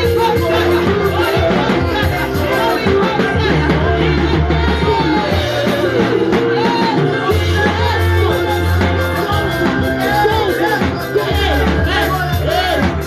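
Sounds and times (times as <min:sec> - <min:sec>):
sustained bass: 0:00.0 - 0:13.0
voices singing worship music: 0:00.0 - 0:13.0.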